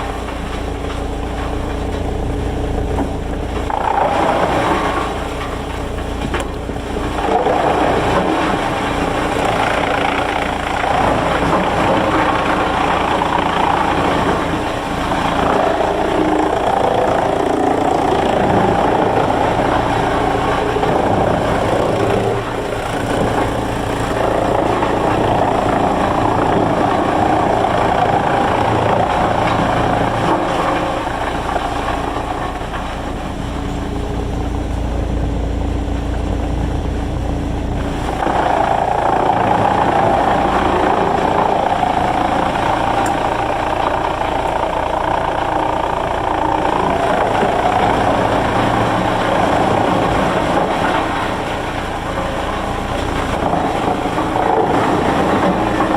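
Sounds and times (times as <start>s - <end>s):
sawmill machinery running: 0.0s - 55.9s.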